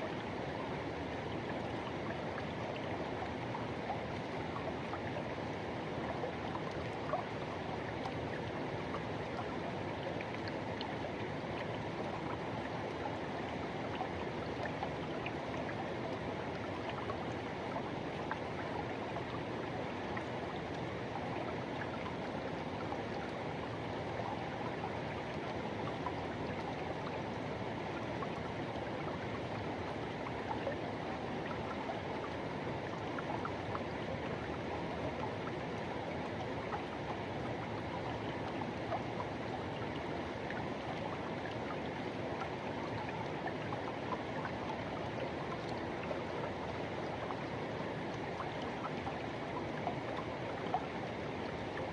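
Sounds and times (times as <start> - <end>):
water splashes and gurgles: 0.0 - 51.9.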